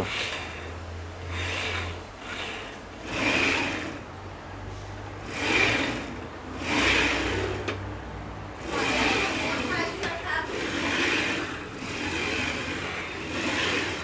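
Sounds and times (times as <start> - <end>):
router carriage rolling swish: 0.0 - 8.0, 8.6 - 14.0.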